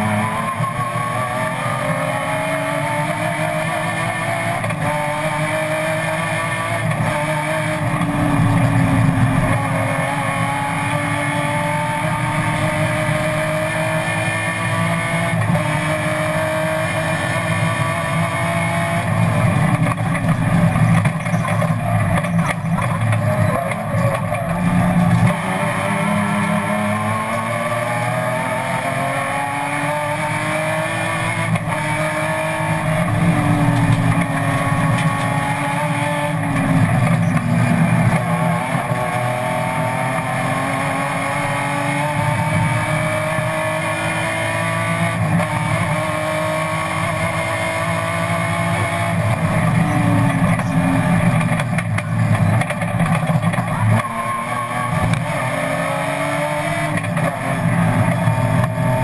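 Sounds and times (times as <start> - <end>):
race car engine revving: 0.0 - 59.0
wind and tyre noise: 0.0 - 59.0.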